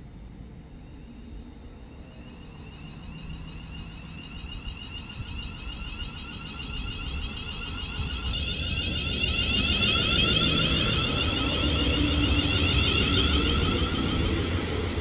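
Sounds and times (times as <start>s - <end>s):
electric train approaching: 0.2s - 15.0s
wheels sweeping tones on track: 1.3s - 15.0s.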